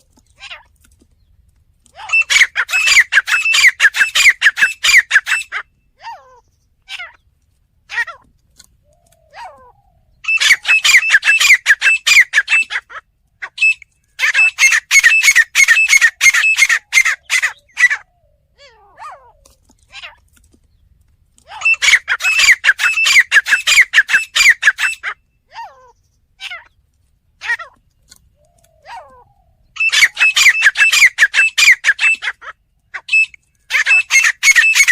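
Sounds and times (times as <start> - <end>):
francolin calling: 2.0 - 7.0, 8.9 - 19.5, 21.5 - 26.7, 27.8 - 34.9.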